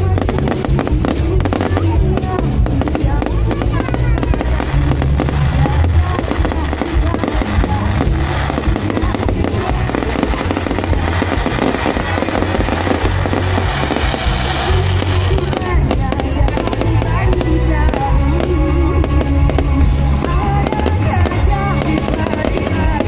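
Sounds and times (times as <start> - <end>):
crowd voices: 0.0 - 23.0
fireworks crackling and banging: 0.0 - 23.0
loud music with heavy bass: 0.0 - 23.0.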